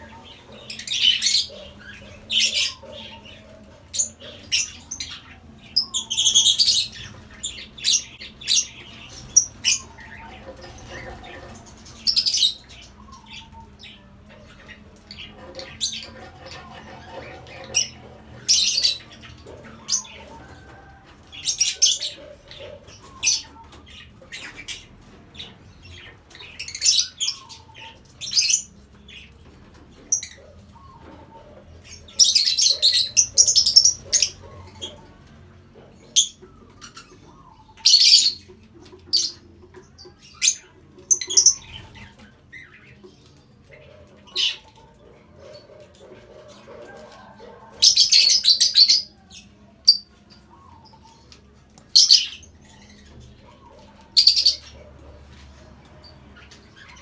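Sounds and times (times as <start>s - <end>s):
lovebirds chirping and squawking: 0.0s - 57.0s.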